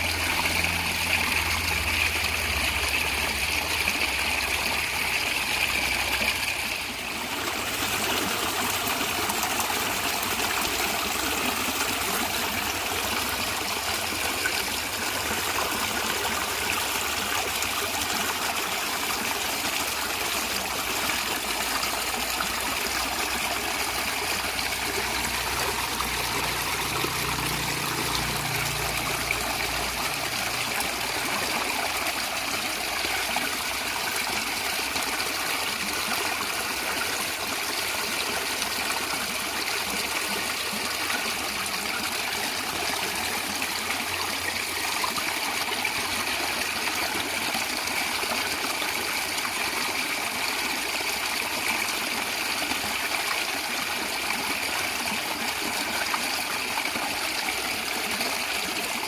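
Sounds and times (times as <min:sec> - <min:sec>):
stream water gurgling: 0:00.0 - 0:59.0.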